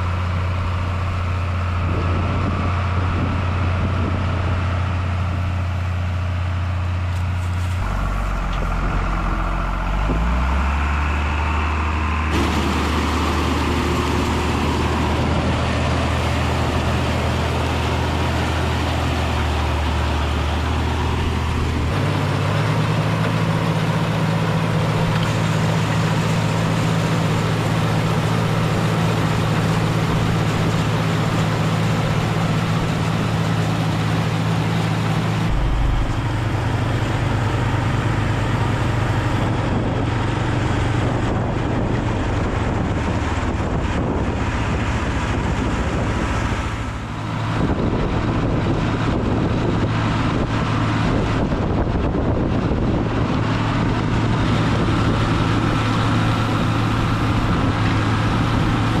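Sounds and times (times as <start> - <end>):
rush of machinery noise: 0.0 - 59.0
tractor engine running: 0.0 - 59.0.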